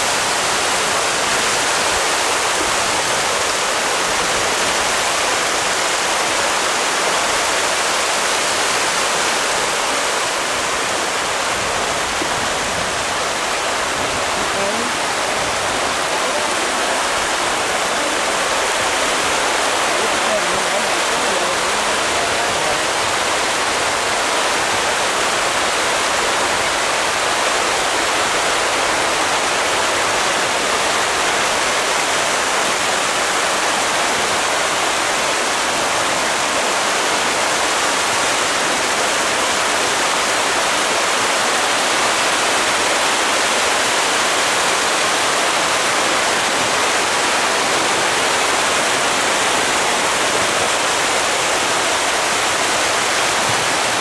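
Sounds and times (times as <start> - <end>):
fish splashing and churning water: 0.0 - 54.0.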